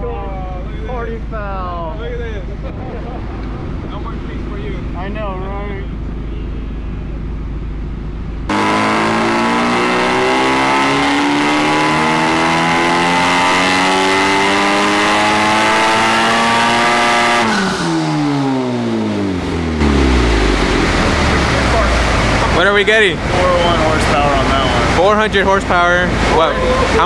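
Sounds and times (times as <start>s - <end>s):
car engine revving under load: 2.4s - 27.0s.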